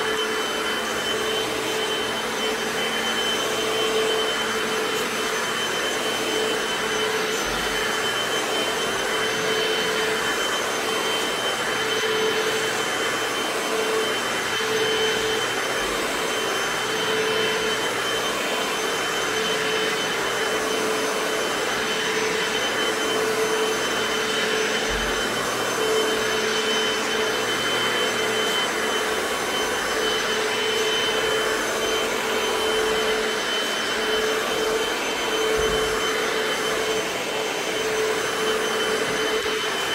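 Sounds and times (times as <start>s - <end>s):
floor cleaner motor whine: 0.0s - 39.9s.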